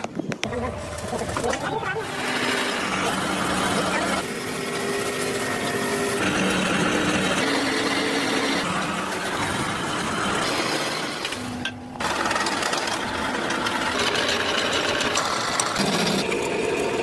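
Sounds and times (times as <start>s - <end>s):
machinery running: 0.4s - 17.0s.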